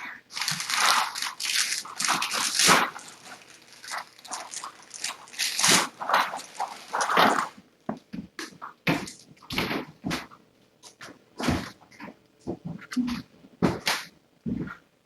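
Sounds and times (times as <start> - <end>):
kittens scuffling: 0.3 - 14.8.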